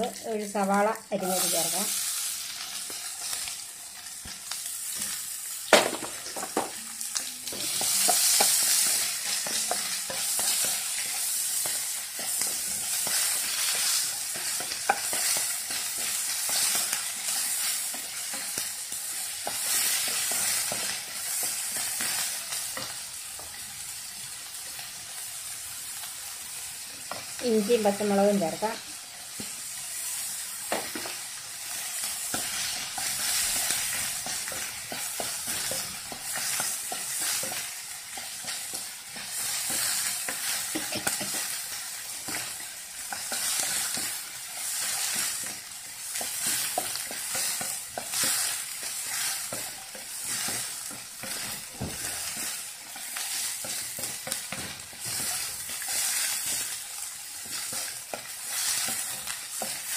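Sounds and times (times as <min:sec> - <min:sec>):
vegetables sizzling in hot oil: 0:00.0 - 0:59.9.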